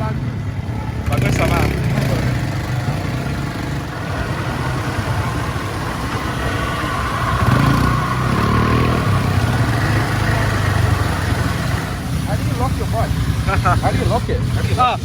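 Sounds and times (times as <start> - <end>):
quad bike engine idling: 0.0 - 15.0.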